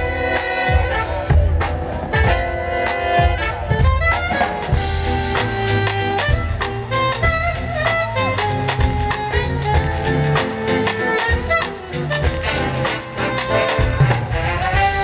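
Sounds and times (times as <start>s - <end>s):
drum kit: 0.0s - 15.0s
horn section playing swing: 0.0s - 15.0s.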